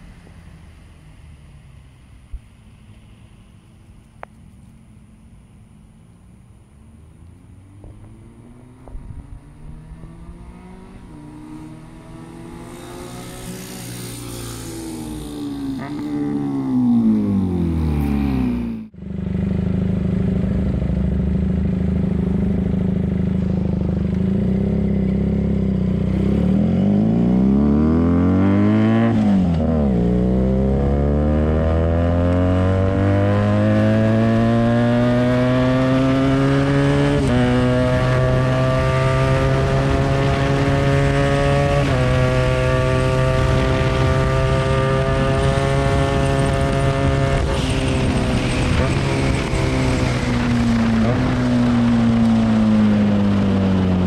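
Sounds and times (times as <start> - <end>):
motorcycle passing by: 6.9 - 54.0
motorcycle engine revving: 7.4 - 54.0.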